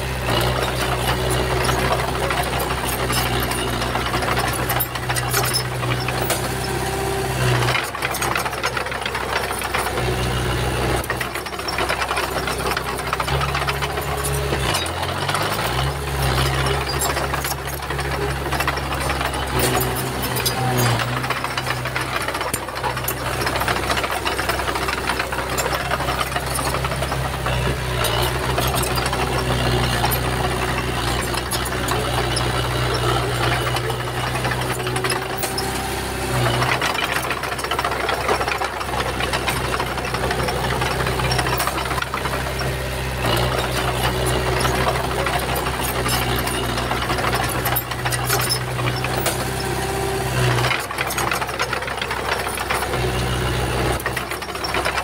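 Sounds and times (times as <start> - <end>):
bulldozer diesel engine clattering: 0.0 - 55.0.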